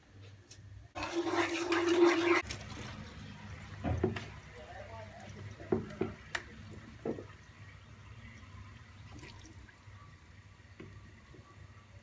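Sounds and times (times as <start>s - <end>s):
faint running water: 1.0s - 12.0s.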